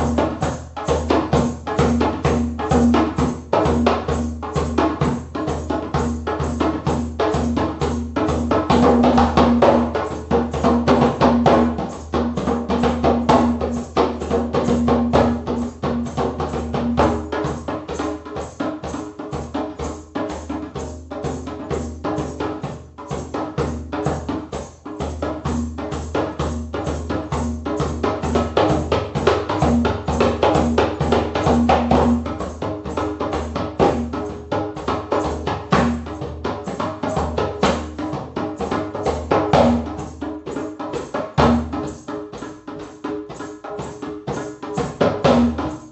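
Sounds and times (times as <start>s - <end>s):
music with fast drum beat and bass: 0.0s - 45.9s.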